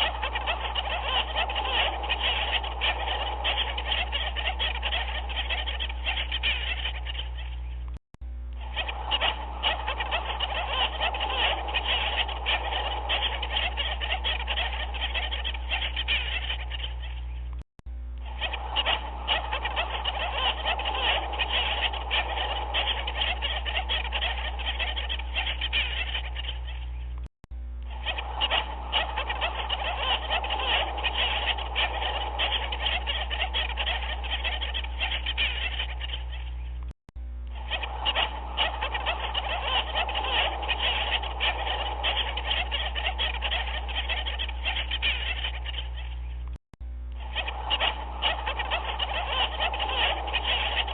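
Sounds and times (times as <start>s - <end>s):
chorus of animal calls: 0.0s - 7.9s, 8.6s - 17.6s, 18.2s - 27.2s, 27.8s - 36.8s, 37.5s - 46.5s, 47.1s - 50.9s
steady low hum: 0.0s - 50.9s.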